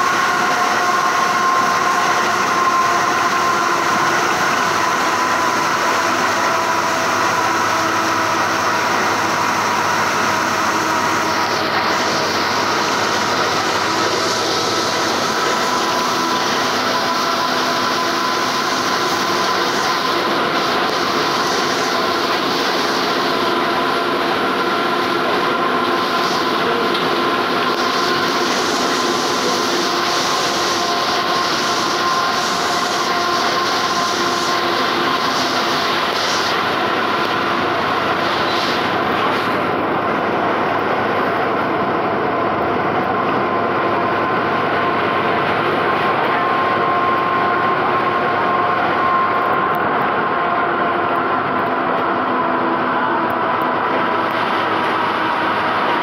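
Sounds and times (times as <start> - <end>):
bus engine droning: 0.0 - 56.0
tyres hissing on wet road: 0.0 - 56.0.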